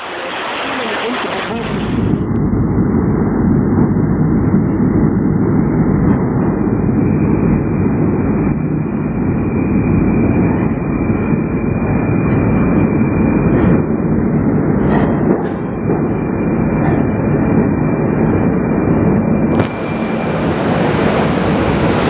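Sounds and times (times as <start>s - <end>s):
faint high whine: 0.0s - 22.0s
metro train rumbling: 0.0s - 22.0s.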